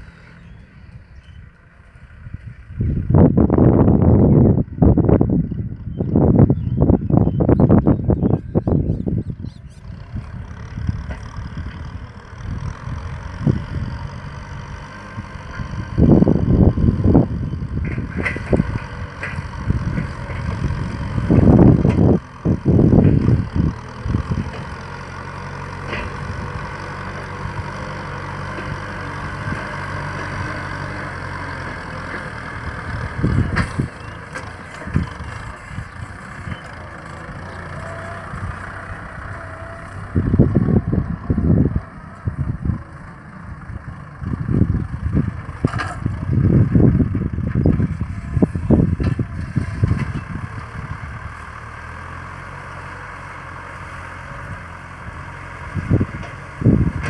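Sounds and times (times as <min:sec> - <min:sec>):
tractor diesel engine under load: 0:00.0 - 0:57.0
wind buffeting microphone: 0:02.2 - 0:52.4, 0:54.4 - 0:57.0.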